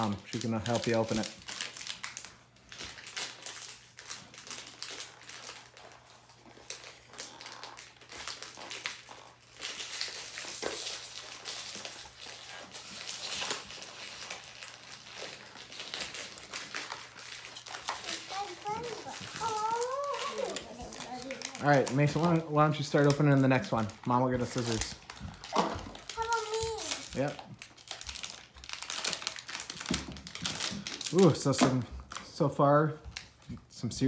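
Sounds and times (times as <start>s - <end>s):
plastic packaging crinkling: 0.0s - 33.6s.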